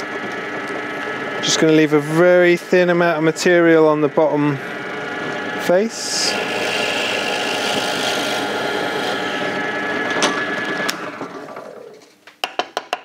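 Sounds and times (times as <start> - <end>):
pillar drill boring into wood: 0.1 - 12.0.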